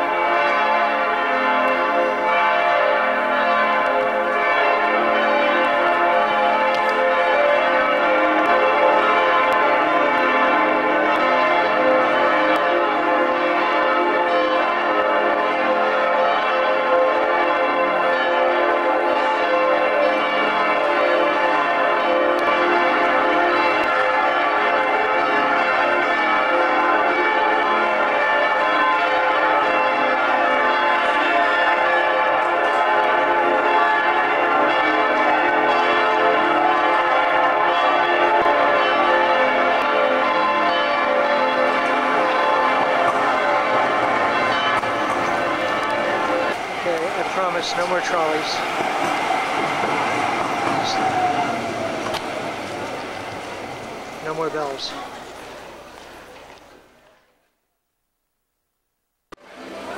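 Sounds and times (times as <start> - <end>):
church bells pealing: 0.0 - 57.0, 59.4 - 59.9.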